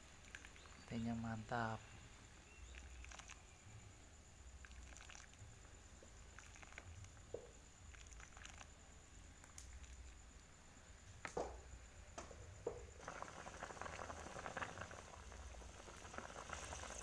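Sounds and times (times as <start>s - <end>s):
stew bubbling in a pot: 0.0s - 10.6s, 11.2s - 17.0s.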